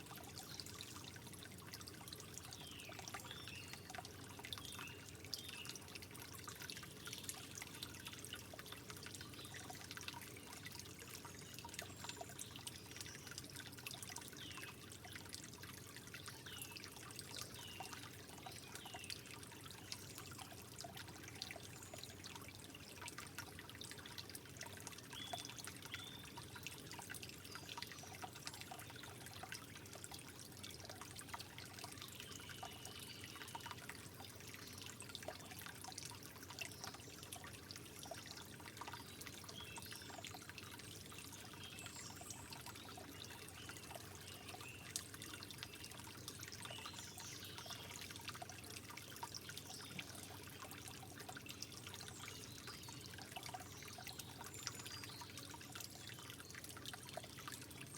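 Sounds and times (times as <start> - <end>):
water dripping and gurgling: 0.0 - 57.9
water trickling: 0.0 - 57.9.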